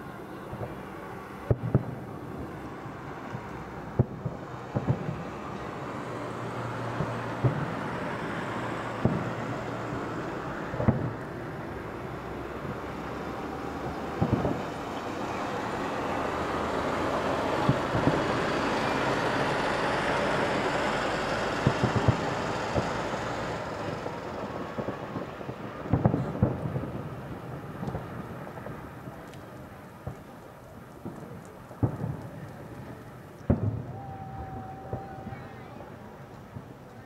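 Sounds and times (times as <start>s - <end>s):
fireworks bursting with bangs: 0.0s - 37.0s.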